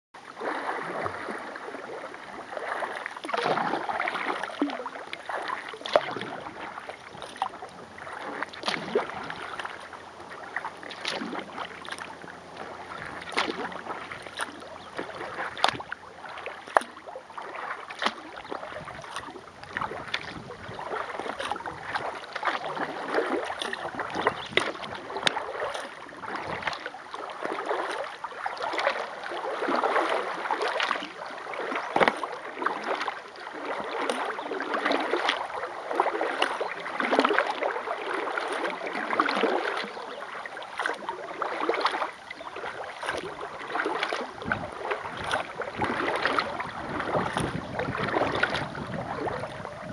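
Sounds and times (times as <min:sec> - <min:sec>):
paddle splashing water: 0:00.2 - 0:49.9.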